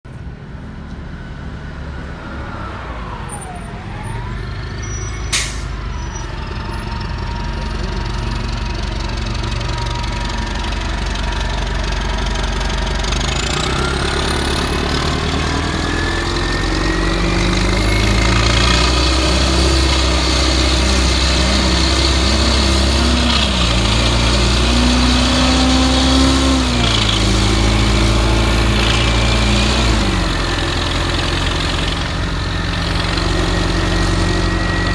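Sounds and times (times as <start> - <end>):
bus engine accelerating: 0.1 - 34.9.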